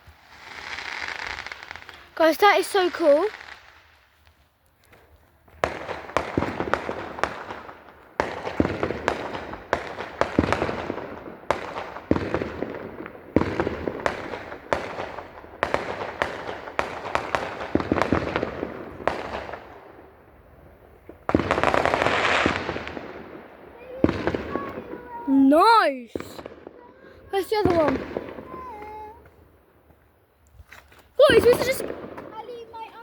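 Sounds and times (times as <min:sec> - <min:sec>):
fireworks bangs: 0:00.0 - 0:04.4, 0:05.4 - 0:30.1, 0:30.8 - 0:33.0
fireworks crackling: 0:00.0 - 0:33.0.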